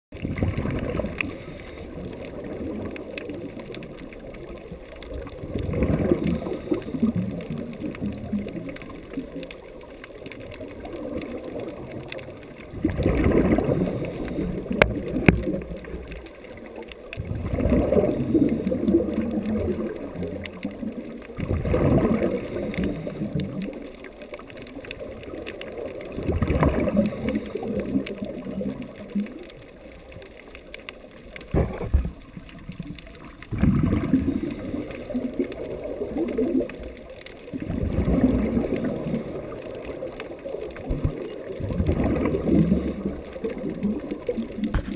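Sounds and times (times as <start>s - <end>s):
regulator bubbles gurgling underwater: 0.1s - 44.9s.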